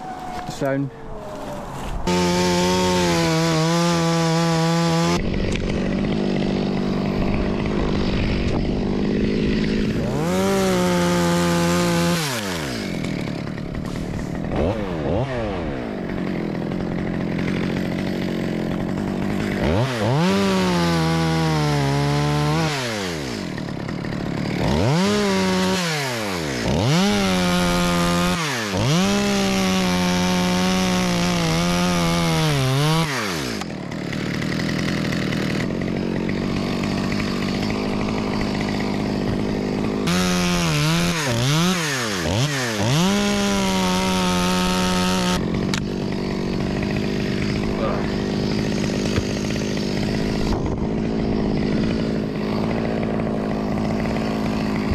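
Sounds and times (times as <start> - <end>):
chainsaw cutting wood: 1.8 - 54.9.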